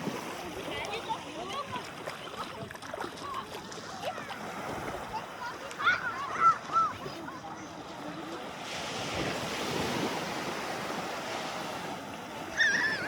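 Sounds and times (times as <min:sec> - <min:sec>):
sea waves washing in: 0:00.0 - 0:02.1, 0:03.6 - 0:13.0.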